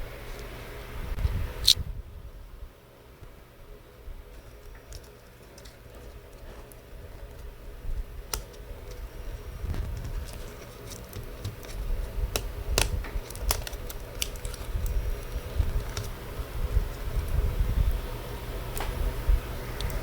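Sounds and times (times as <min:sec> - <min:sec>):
low handling rumble: 0:00.0 - 0:20.0.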